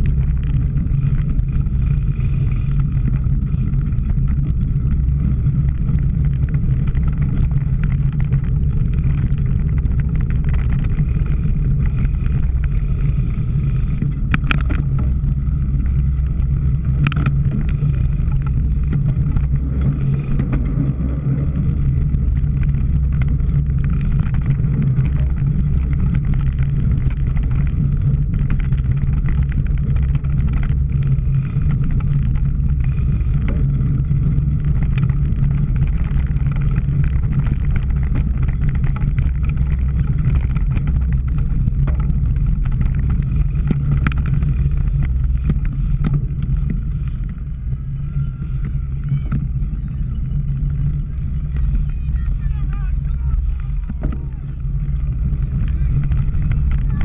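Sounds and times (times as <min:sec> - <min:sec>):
bicycle riding noise: 0:00.0 - 0:57.0
small clicks and rattles: 0:00.0 - 0:57.0
wind rumble on microphone: 0:00.0 - 0:57.0.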